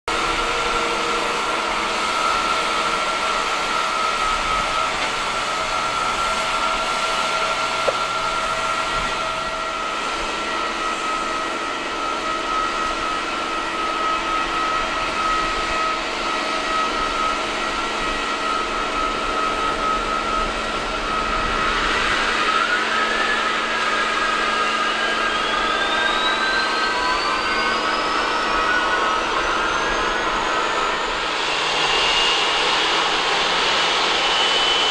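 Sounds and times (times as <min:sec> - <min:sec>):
jet engine spooling up: 0:00.1 - 0:34.9
jet whine and hum: 0:00.1 - 0:34.9.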